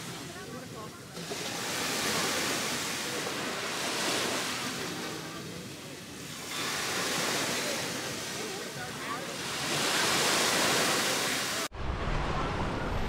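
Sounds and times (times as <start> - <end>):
small waves washing onto beach: 0.0 - 11.7.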